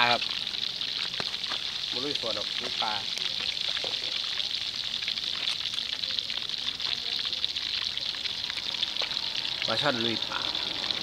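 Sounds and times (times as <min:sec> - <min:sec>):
crackles and pops of oil: 0:00.0 - 0:09.8
fish deep-frying in oil: 0:00.0 - 0:11.0.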